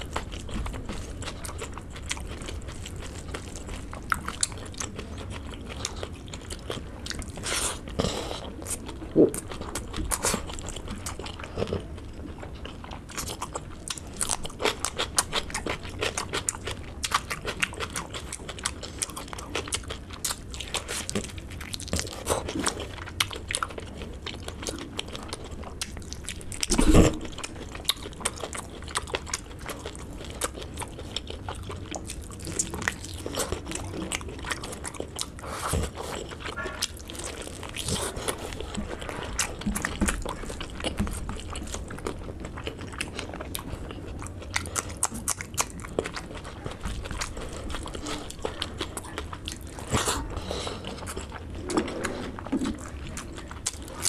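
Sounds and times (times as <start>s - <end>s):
wet chewing smacks and crunches: 0.0s - 54.0s.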